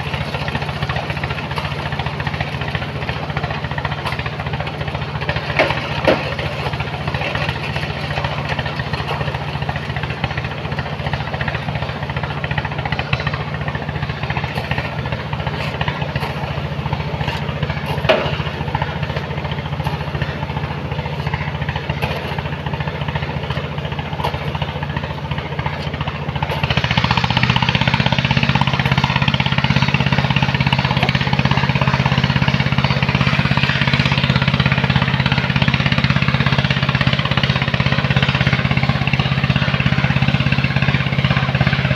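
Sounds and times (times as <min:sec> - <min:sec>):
large engine knocking: 0:00.0 - 0:41.9.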